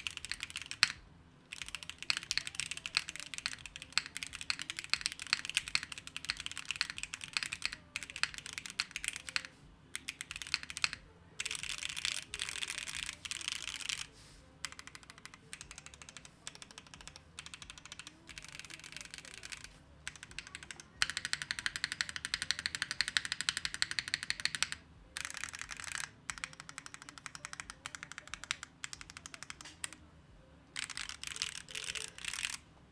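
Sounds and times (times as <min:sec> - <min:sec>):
mechanical keyboard typing: 0:00.0 - 0:30.0, 0:30.7 - 0:32.6.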